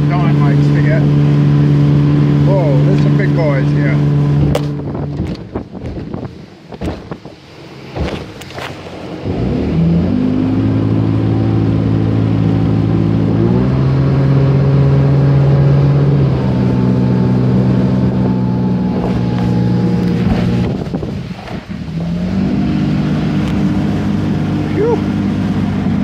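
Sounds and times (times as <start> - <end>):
boat engine revving: 0.0 - 26.0
rushing water and wind: 0.0 - 26.0.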